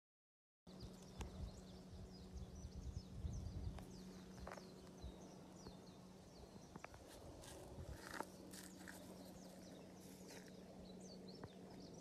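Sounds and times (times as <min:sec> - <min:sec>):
small birds chirping: 0:00.7 - 0:12.0.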